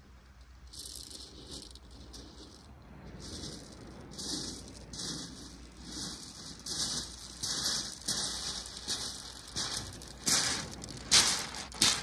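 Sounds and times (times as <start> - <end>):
footsteps crunching on pebbles: 0.7 - 12.0.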